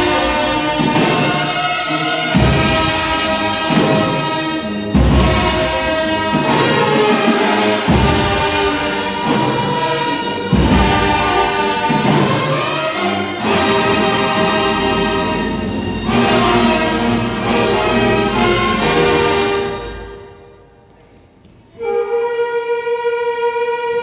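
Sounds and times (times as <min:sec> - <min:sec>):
heavy accented band hits: 0:00.0 - 0:20.3
brass band sustained chords: 0:00.0 - 0:20.8.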